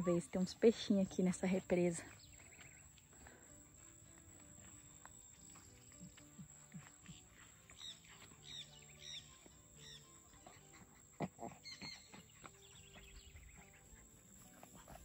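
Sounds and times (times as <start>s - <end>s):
birds calling faintly: 0.0s - 15.0s.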